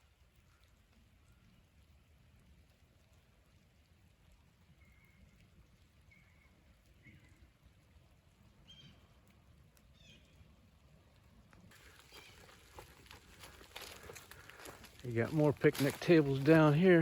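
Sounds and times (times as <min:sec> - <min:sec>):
faint low rumble of outdoor air: 0:00.0 - 0:17.0.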